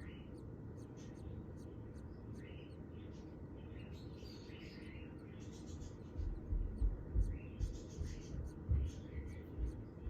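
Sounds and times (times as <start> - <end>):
lovebirds chirping: 0.0 - 10.0.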